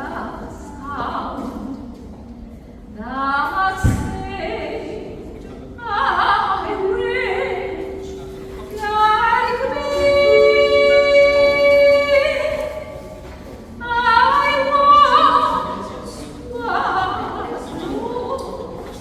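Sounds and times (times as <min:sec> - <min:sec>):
person singing long held notes: 0:03.0 - 0:18.9.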